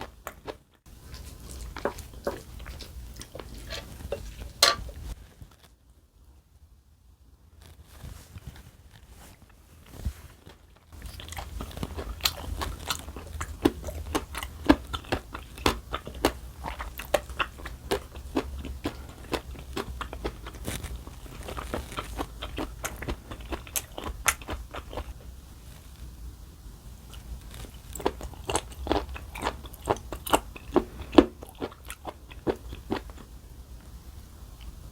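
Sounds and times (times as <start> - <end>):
chewing crisp food: 0.0 - 5.2, 9.3 - 25.2, 27.1 - 34.0
steady low hum: 0.0 - 5.3, 11.0 - 34.9.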